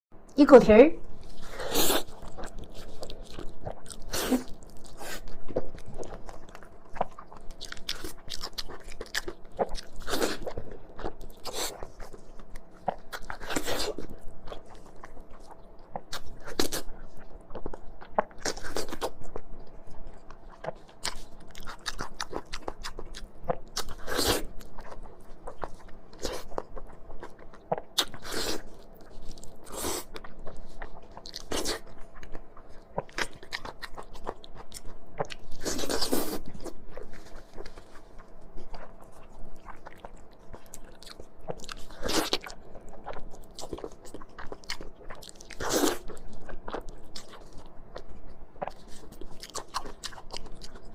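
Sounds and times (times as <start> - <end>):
person chewing crunchy food: 1.1 - 50.9.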